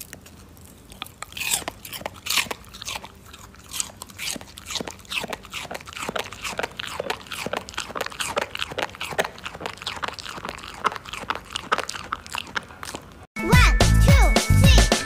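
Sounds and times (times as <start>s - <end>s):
dog mouth clicks and jaw smacks: 0.0s - 13.3s.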